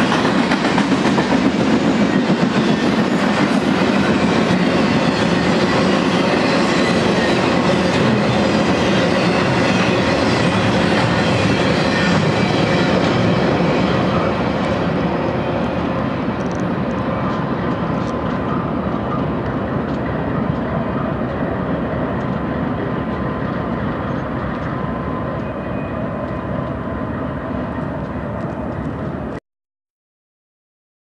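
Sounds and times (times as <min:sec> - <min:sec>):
freight train wheels rumbling: 0:00.0 - 0:29.4.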